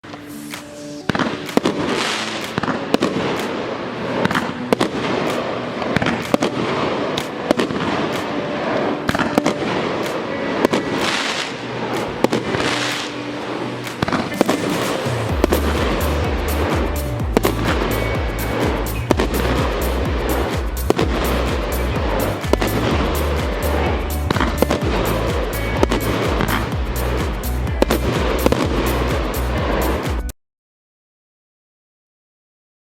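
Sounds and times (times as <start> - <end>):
firework crackling: 0.0 - 30.3
firework reports: 0.0 - 30.3
music: 0.0 - 30.4.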